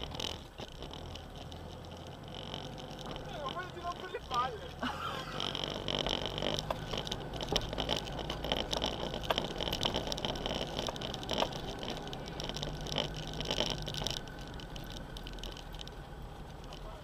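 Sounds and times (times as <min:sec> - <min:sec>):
stones knocking and rattling: 0:00.0 - 0:17.0
vehicle engine running low: 0:00.0 - 0:17.0.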